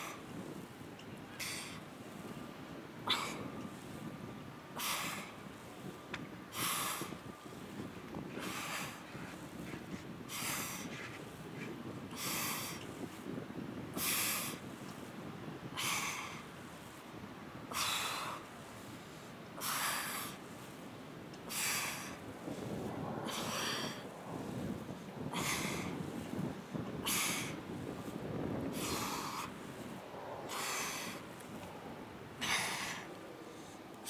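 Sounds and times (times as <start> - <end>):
low background rush: 0.0 - 34.0.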